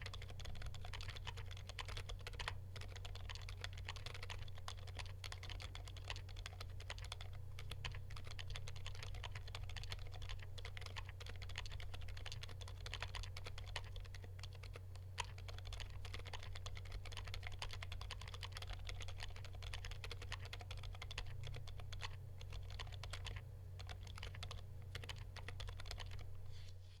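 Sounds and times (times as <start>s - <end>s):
fast typing on keyboard: 0.0s - 26.4s
steady low hum: 0.0s - 27.0s.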